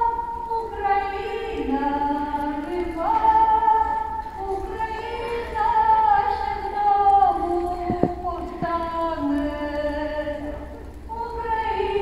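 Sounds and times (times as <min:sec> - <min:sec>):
women singing in parts: 0:00.0 - 0:12.0.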